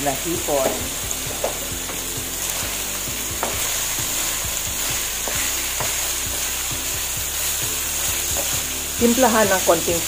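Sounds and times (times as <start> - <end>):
food sizzling in a pan: 0.0 - 10.0
spatula scraping a pan: 0.7 - 9.6.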